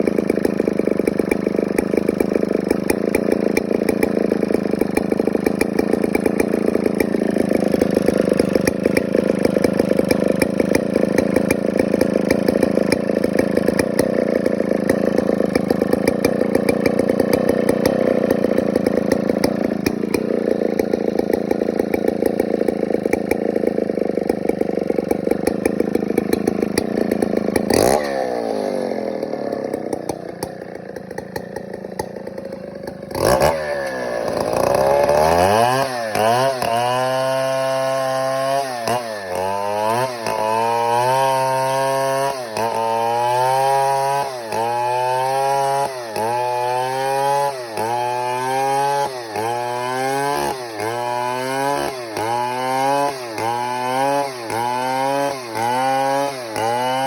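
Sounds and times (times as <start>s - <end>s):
chainsaw running at high speed: 0.0s - 57.0s.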